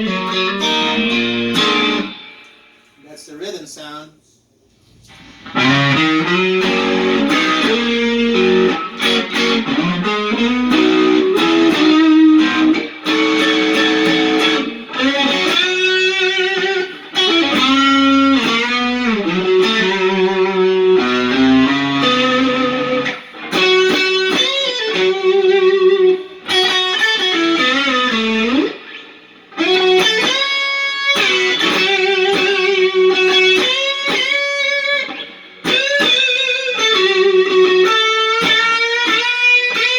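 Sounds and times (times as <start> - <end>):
overdriven electric guitar lead: 0.0 - 3.0, 5.1 - 39.9.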